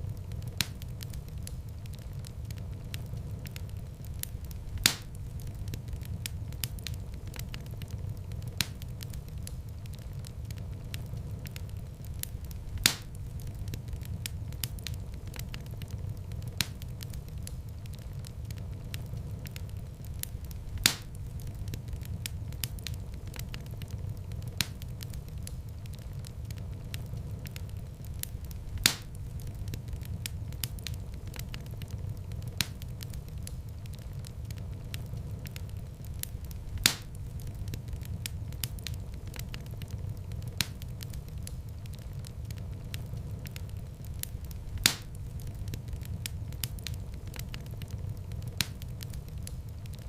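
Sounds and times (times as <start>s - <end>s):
rumble of flames: 0.0s - 50.0s
sharp popping of fire: 0.0s - 50.0s
wood fire crackling: 0.0s - 50.0s.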